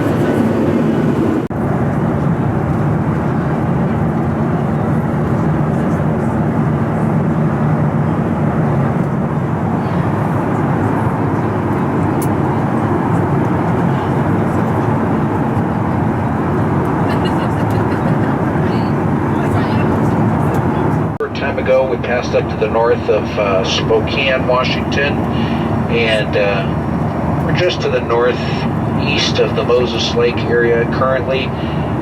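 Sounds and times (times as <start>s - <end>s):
airplane cabin roar: 0.0s - 32.0s.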